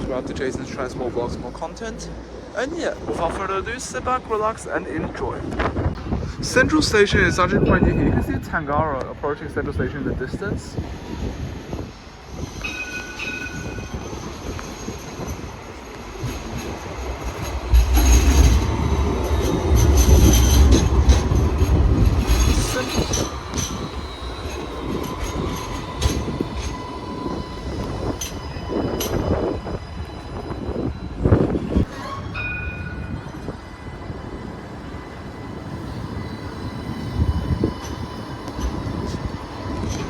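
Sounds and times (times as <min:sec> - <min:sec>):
tram rumbling on rails: 0:00.0 - 0:40.0.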